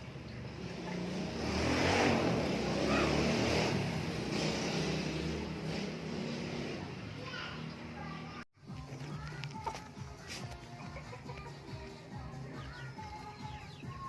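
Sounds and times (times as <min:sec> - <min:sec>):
motor vehicle passing: 0:00.0 - 0:13.2.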